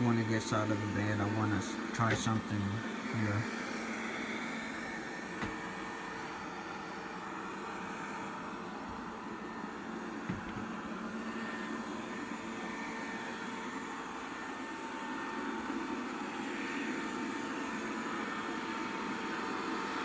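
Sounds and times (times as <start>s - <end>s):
robot vacuum whirring hum: 0.0s - 20.0s.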